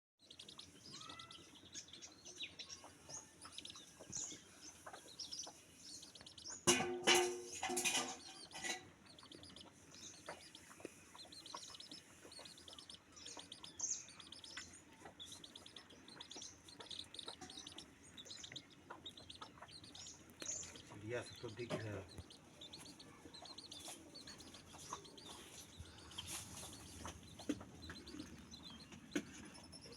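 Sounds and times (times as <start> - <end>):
small birds chirping: 0.2 - 29.9.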